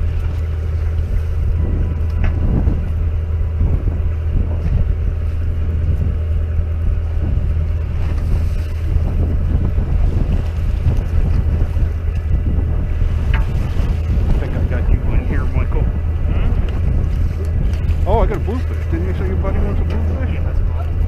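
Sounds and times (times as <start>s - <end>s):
boat engine humming: 0.0s - 21.0s
wind buffeting microphone: 0.0s - 21.0s.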